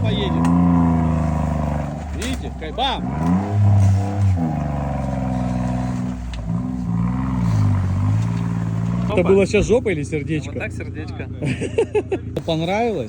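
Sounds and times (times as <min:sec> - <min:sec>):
car engine revving: 0:00.0 - 0:11.7, 0:12.3 - 0:13.0.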